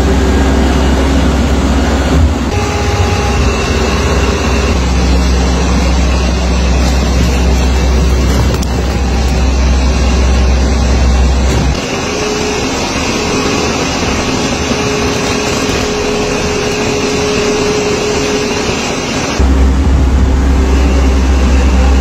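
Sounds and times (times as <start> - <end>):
deep hum: 0.0 - 22.0
steady tone: 0.0 - 22.0.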